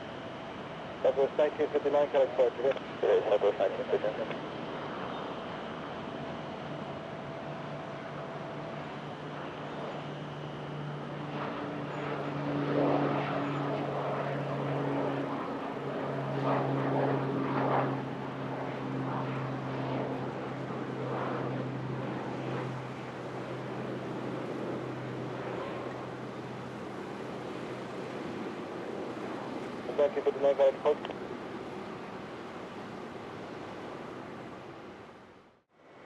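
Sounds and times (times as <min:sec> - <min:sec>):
aircraft engines running: 0:00.0 - 0:36.0.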